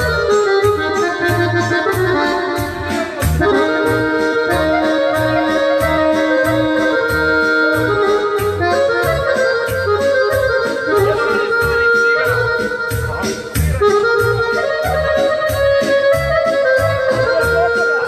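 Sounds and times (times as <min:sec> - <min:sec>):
instrumental music with beat: 0:00.0 - 0:18.0.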